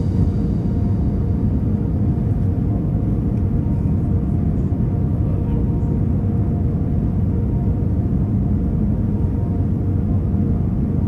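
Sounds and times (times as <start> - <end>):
aircraft cabin rumble: 0.0 - 11.0
faint hum of engine tones: 0.0 - 11.0.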